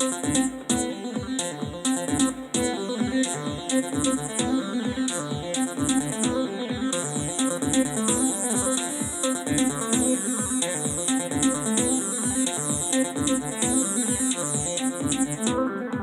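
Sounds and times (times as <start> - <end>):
pulsing synth bass: 0.0 - 16.0
rhythmic synthesizer pattern: 0.0 - 16.0.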